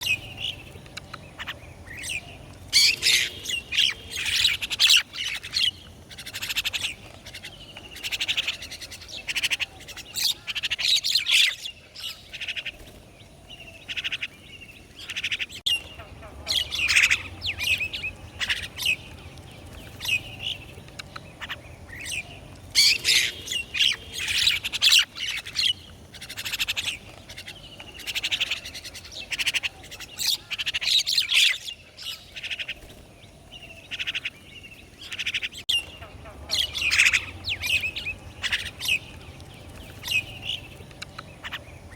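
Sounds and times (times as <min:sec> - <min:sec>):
birds calling and chirping: 0:00.0 - 0:41.9.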